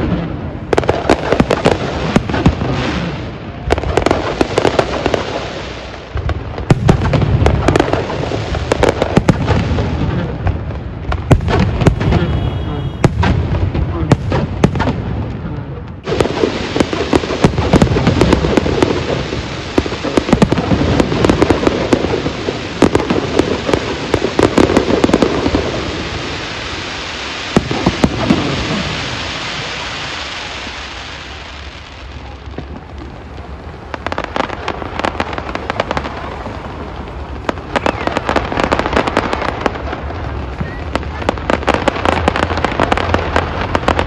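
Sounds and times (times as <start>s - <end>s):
fireworks banging and crackling: 0.0s - 44.0s.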